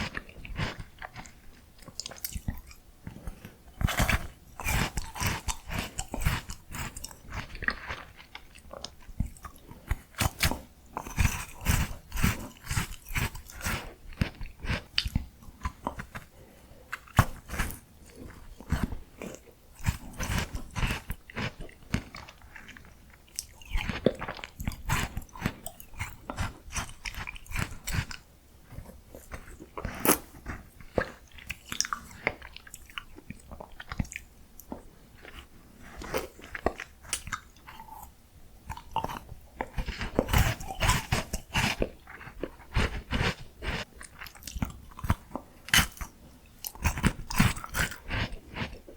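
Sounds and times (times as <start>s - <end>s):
person biting and chewing ice cream: 0.0s - 48.9s.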